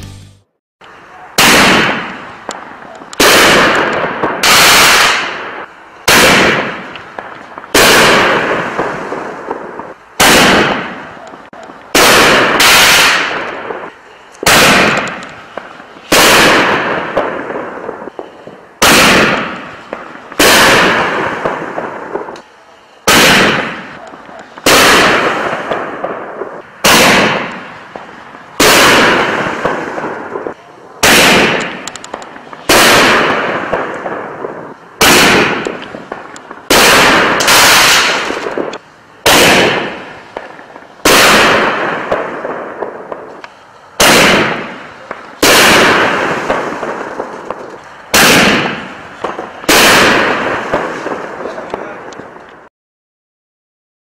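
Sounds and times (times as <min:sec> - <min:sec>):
firework shells bursting: 0:01.4 - 0:52.7.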